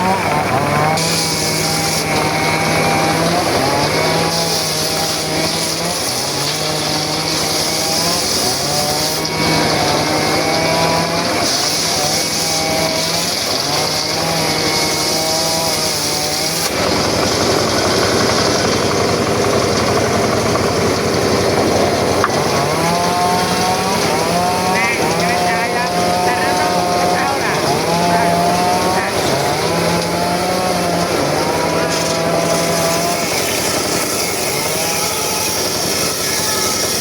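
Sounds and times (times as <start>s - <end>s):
circular saw cutting wood: 0.0s - 37.0s.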